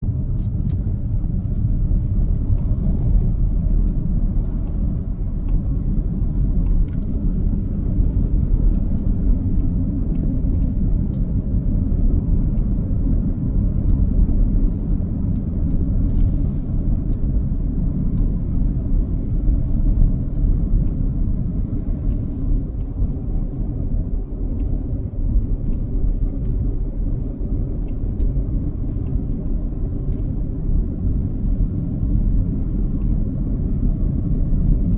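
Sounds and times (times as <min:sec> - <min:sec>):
car road and engine noise: 0:00.0 - 0:34.9.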